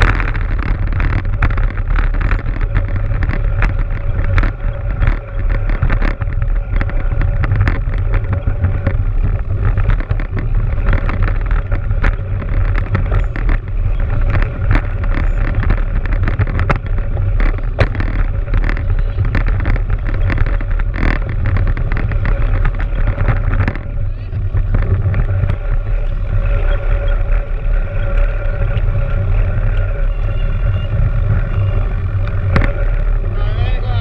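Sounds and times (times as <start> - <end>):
bike rattling and clicking: 0.0 - 34.0
wind rumbling on microphone: 0.0 - 34.0.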